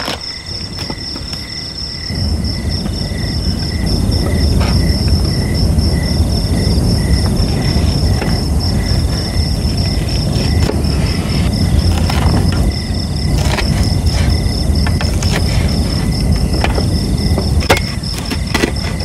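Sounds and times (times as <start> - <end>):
insects chirping: 0.0 - 19.0
steady low rumble: 0.5 - 19.0.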